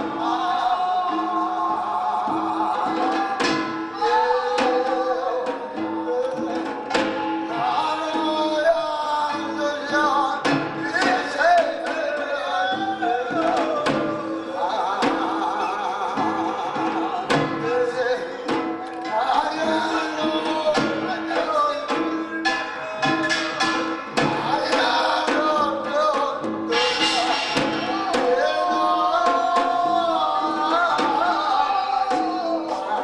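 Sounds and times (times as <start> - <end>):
repeating percussion with sharp strikes: 0.0 - 33.0.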